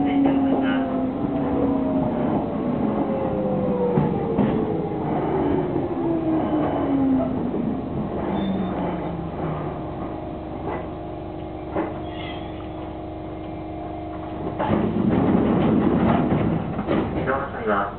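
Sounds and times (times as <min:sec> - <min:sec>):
train motor whine: 0:00.0 - 0:16.8
train hum: 0:00.0 - 0:17.9.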